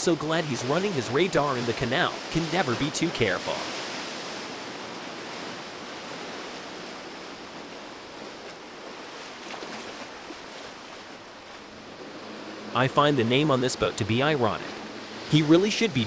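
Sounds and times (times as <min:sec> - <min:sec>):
boat wake rushing water: 0:00.0 - 0:16.0.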